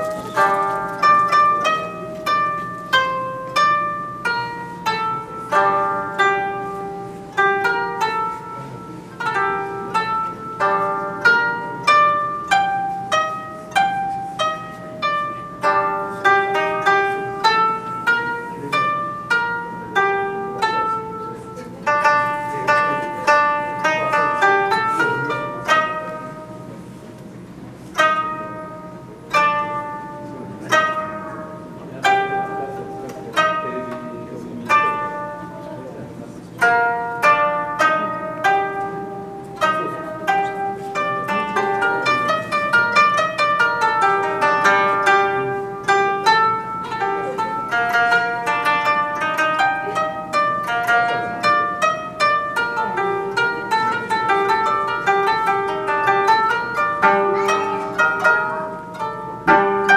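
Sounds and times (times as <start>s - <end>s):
plucked koto: 0.0s - 59.9s.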